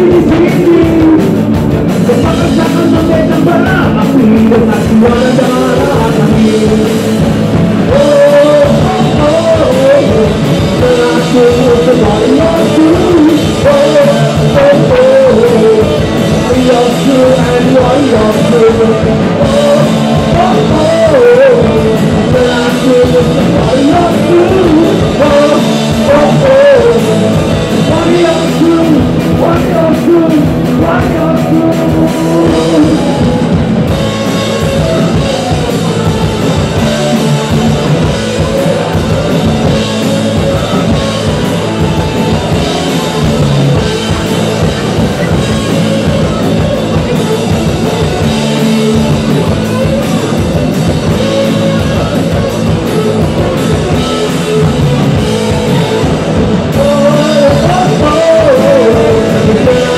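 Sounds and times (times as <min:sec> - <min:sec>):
punk band playing loudly: 0:00.0 - 0:59.9
saxophone melody: 0:07.1 - 0:59.9.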